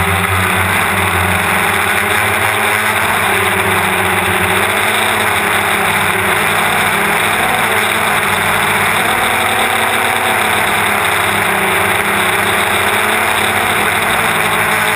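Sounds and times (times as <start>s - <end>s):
drone motors buzzing: 0.0s - 14.9s.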